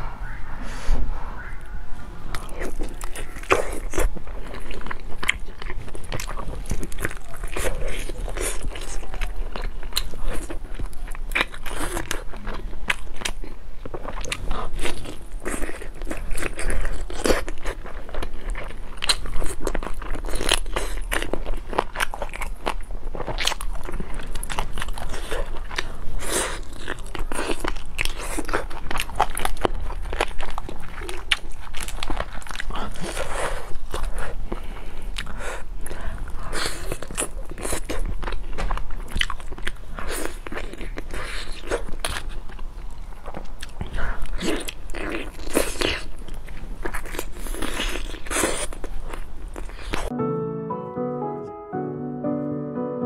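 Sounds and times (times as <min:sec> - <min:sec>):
mouth clicks and crunches: 0:02.3 - 0:50.1
person chewing food: 0:02.3 - 0:50.1.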